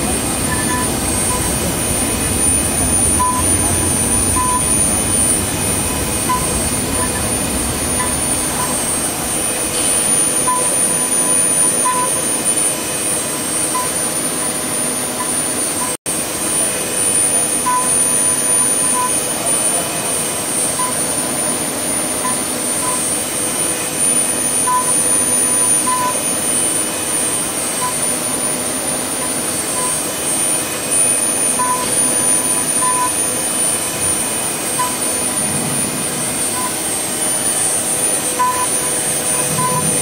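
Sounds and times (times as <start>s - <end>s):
router spindle whining: 0.0s - 40.0s.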